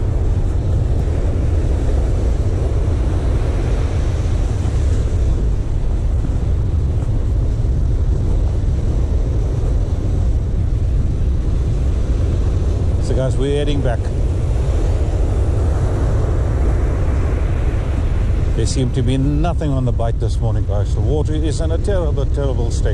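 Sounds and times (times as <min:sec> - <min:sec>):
wind rumbling on microphone: 0:00.0 - 0:22.9.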